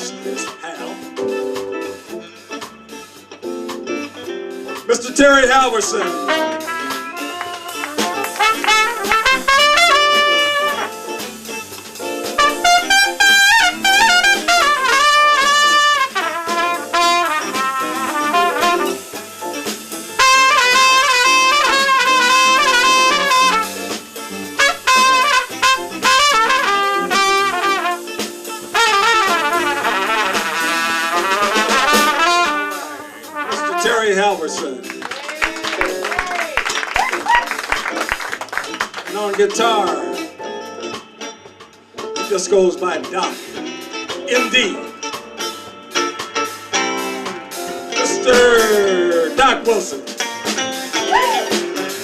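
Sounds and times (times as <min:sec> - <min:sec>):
brass horn jazz solo: 0:00.0 - 0:35.0, 0:43.2 - 0:52.0.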